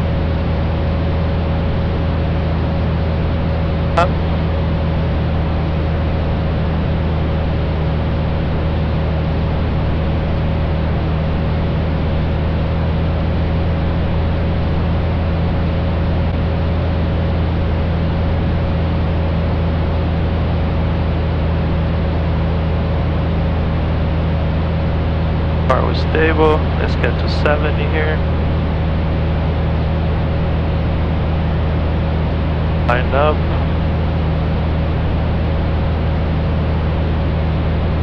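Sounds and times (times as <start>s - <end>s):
aircraft engine and propeller drone: 0.0s - 38.0s
thin steady whine: 0.0s - 38.0s.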